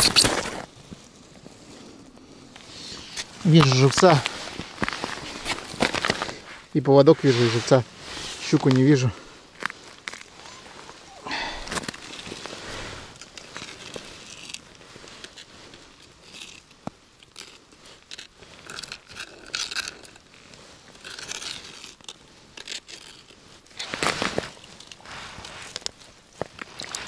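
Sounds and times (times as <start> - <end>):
crunching snow and ice: 0.0 - 27.0.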